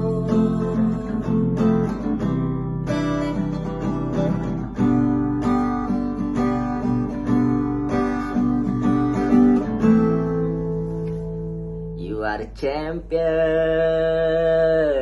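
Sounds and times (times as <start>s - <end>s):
strummed acoustic guitar: 0.0s - 14.2s.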